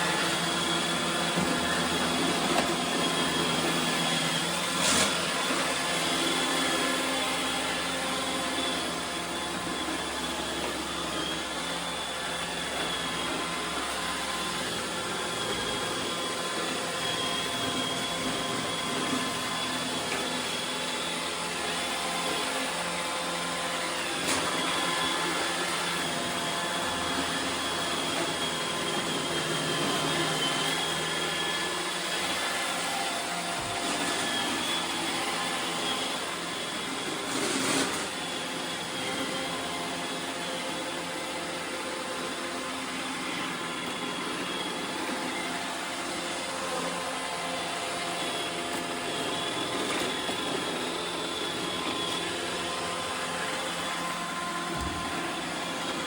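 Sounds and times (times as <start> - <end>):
robot vacuum whirring: 0.0 - 56.0.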